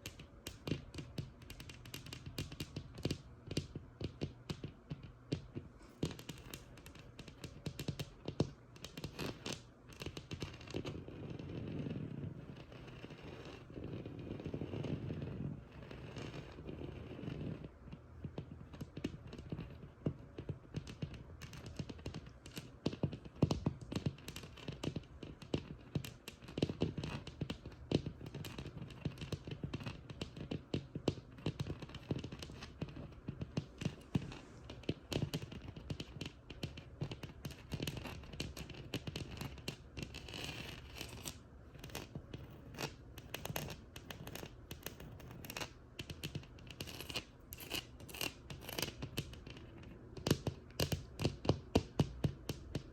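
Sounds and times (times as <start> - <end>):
scratching on a wall: 0.0 - 52.9
tapping on a textured wall: 0.0 - 52.9.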